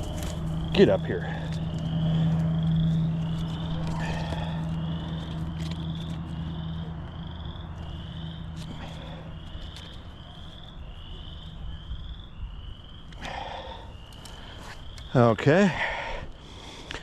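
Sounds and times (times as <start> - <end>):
frog chirping: 0.0 - 15.4
low rumble of wind: 0.0 - 17.0
low steady hum: 0.0 - 17.0.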